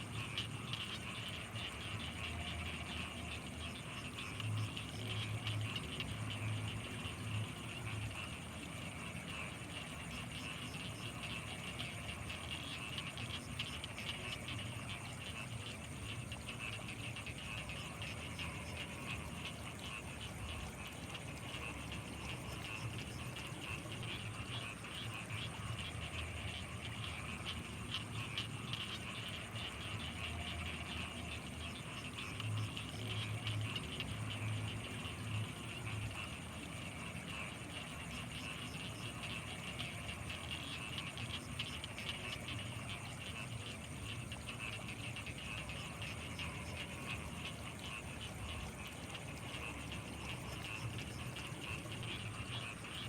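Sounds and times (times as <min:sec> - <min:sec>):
deep pulsing frog croaks: 0:00.0 - 0:53.0
frogs calling: 0:00.0 - 0:53.0.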